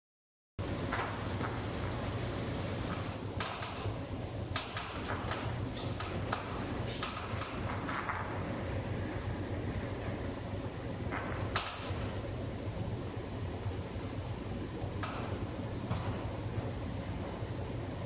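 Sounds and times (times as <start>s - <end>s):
steady low hum: 0.6s - 18.0s.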